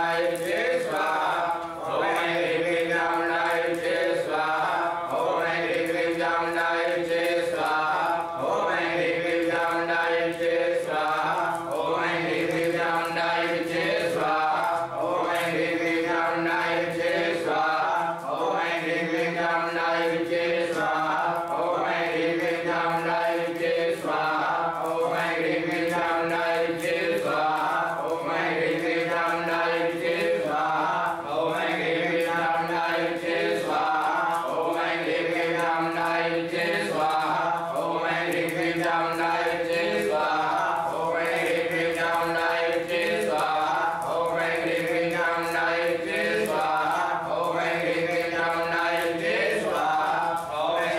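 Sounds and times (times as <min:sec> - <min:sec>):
men chanting in unison: 0:00.0 - 0:50.9.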